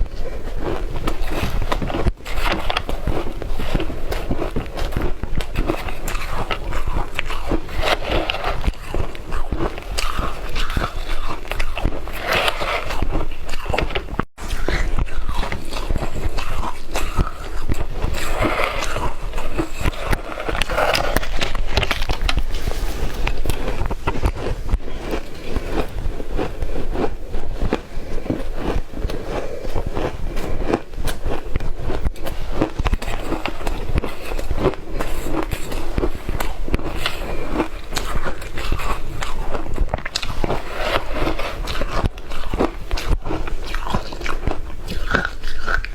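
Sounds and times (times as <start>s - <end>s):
chewing crunchy ice: 0.0s - 45.9s.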